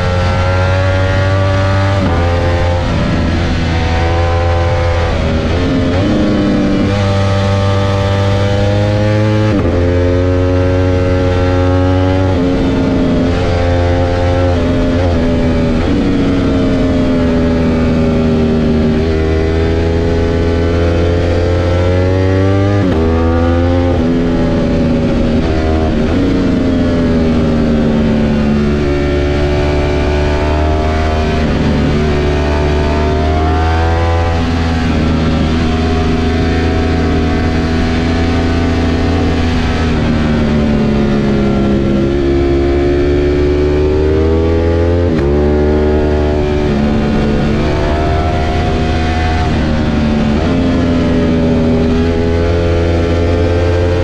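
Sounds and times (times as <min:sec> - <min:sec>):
motorcycle engine revving: 0:00.0 - 0:54.0
wind rush: 0:00.0 - 0:54.0.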